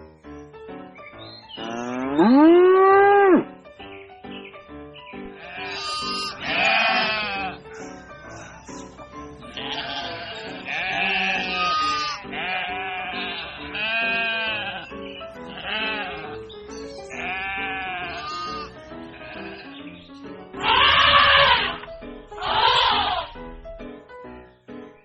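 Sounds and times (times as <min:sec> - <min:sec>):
background music: 0:00.0 - 0:25.0
farm animals bleating: 0:01.5 - 0:03.4, 0:05.2 - 0:23.6.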